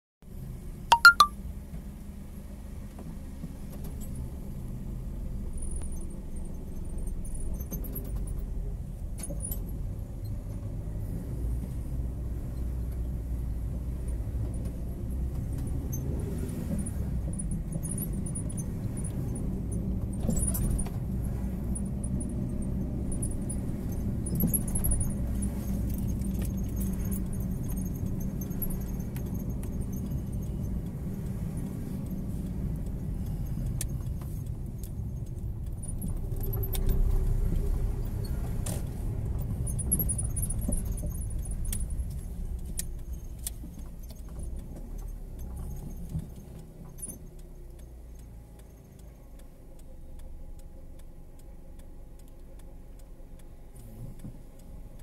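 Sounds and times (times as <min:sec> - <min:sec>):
car interior rumble: 0:03.2 - 0:55.0.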